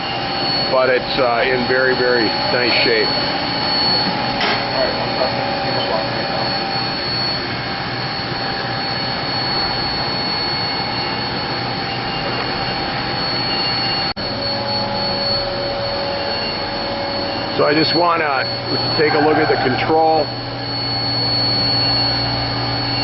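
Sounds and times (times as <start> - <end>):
machining center whining and humming: 0.0 - 23.0.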